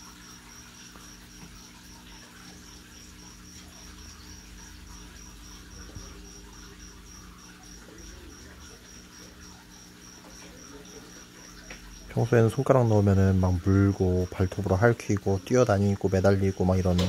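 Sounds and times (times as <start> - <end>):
cricket chirping: 0.0 - 17.0
low electrical hum: 0.0 - 17.0.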